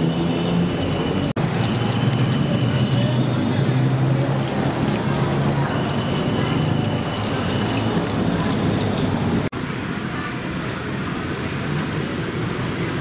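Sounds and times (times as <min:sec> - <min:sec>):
steady traffic noise: 0:00.0 - 0:13.0.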